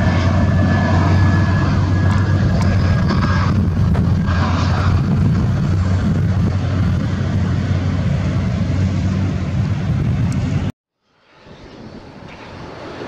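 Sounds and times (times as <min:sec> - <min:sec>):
jet engines at takeoff power: 0:00.0 - 0:13.0.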